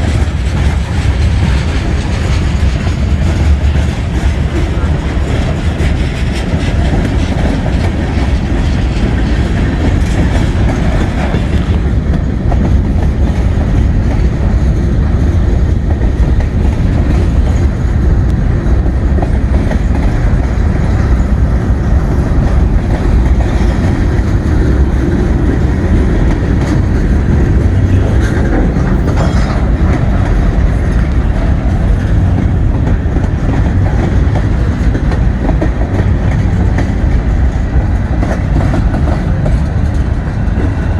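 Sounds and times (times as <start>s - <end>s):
freight train wheels clacking: 0.0s - 40.9s.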